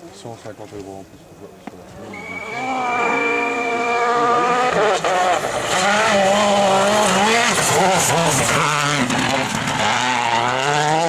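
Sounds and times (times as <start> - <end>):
rally car engine revving: 1.7 - 11.0.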